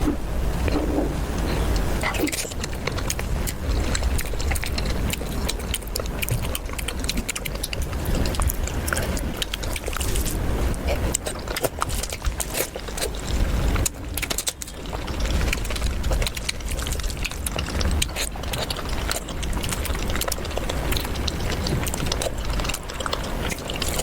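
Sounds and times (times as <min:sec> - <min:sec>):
chewing and crunching food: 0:00.6 - 0:24.0.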